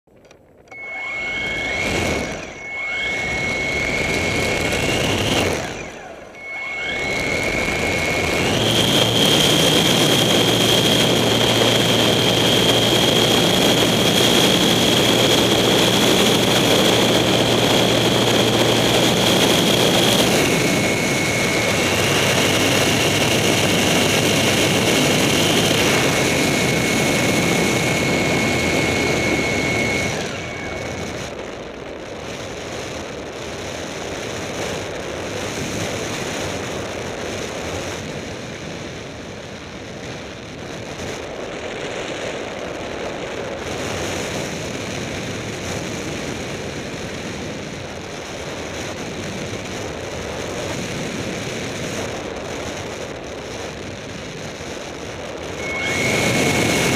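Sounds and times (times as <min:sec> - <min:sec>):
light plane engine and propeller: 0:00.1 - 0:56.9.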